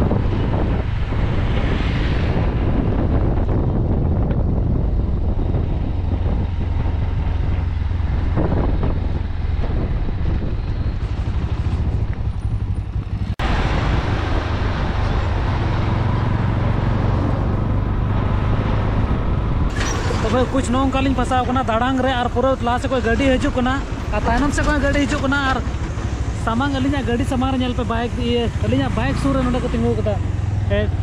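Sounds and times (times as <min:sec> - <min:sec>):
wind rushing over microphone: 0:00.0 - 0:27.1
motorcycle engine humming: 0:00.0 - 0:31.0.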